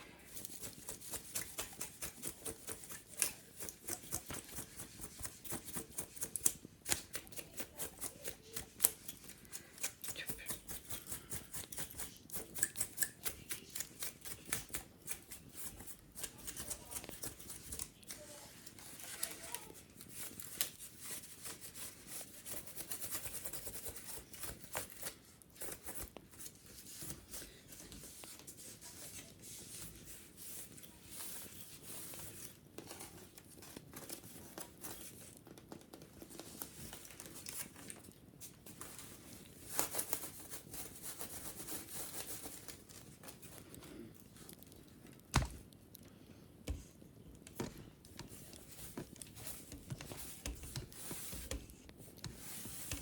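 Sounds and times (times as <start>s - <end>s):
scratching and rustling on wicker: 0.0s - 53.0s.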